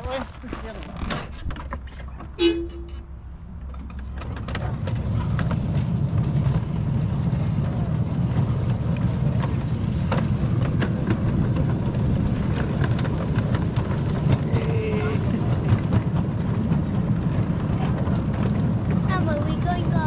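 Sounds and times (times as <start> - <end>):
miniature train wheels rumbling on rail: 0.0 - 20.0
sharp clicks of wheels: 3.6 - 20.0.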